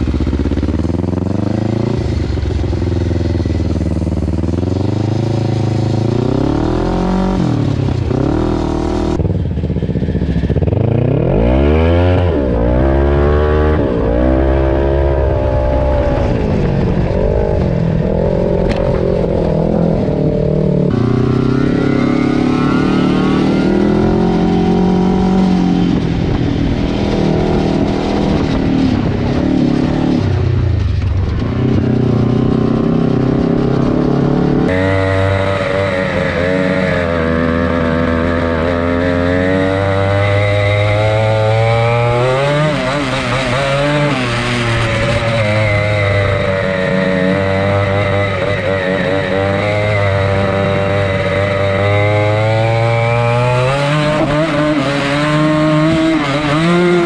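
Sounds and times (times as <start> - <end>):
off-road engine revving: 0.0 - 57.0.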